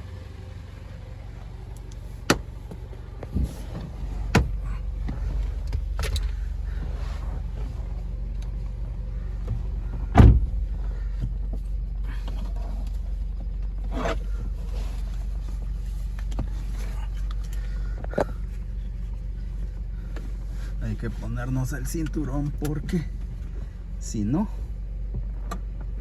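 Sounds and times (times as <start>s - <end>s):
car engine idling: 0.0s - 26.0s
clicks and knocks inside car: 1.8s - 21.2s, 22.0s - 23.9s, 25.0s - 26.0s.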